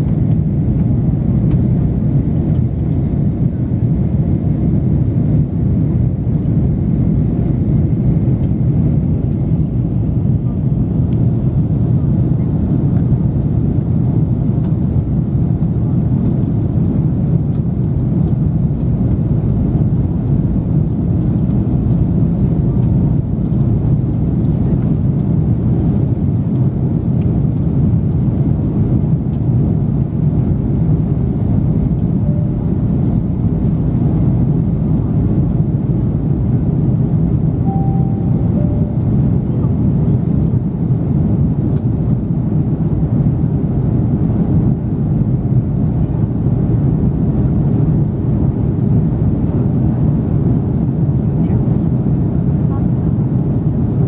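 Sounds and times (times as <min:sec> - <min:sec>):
airflow over fuselage: 0:00.0 - 0:54.0
airplane engine rumble in cabin: 0:00.0 - 0:54.0.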